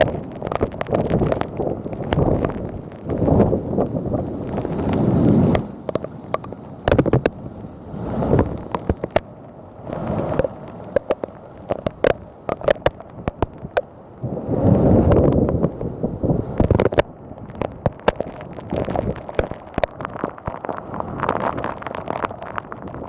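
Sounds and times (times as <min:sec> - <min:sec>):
heavy raindrops ticking: 0:00.0 - 0:14.3, 0:15.0 - 0:23.0
wind gusting on microphone: 0:00.0 - 0:23.0.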